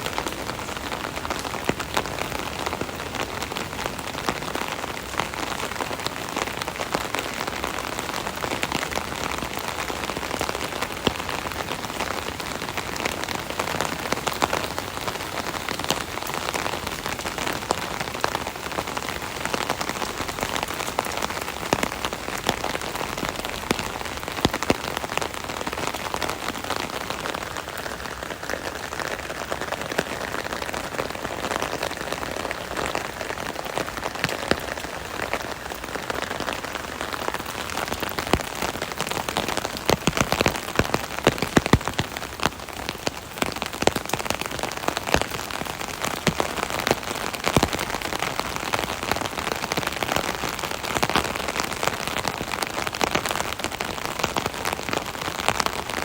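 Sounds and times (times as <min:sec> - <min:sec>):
rain pattering on umbrella: 0:00.0 - 0:56.0.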